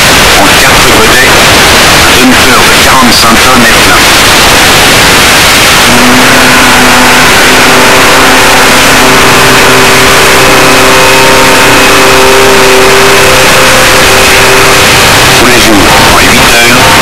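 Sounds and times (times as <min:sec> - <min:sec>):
heavy machinery engine drone: 0:00.0 - 0:17.0.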